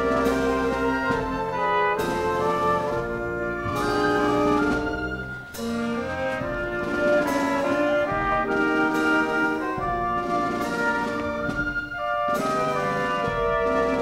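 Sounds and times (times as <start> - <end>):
orchestra with brass: 0.0 - 14.0.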